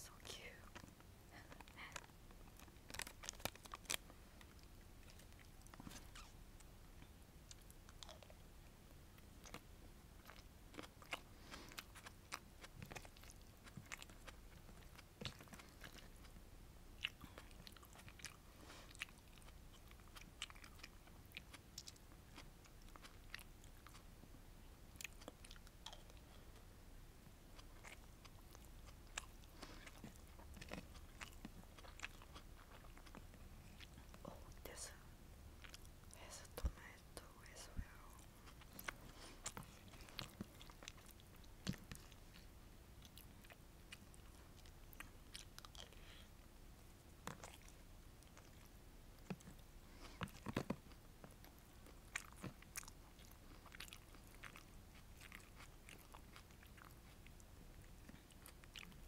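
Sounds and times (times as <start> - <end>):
close chewing and crunching: 0.0 - 59.0.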